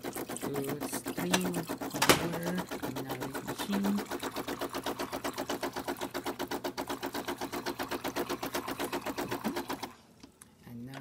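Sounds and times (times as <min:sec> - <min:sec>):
espresso machine pump pulsing: 0:00.0 - 0:10.0.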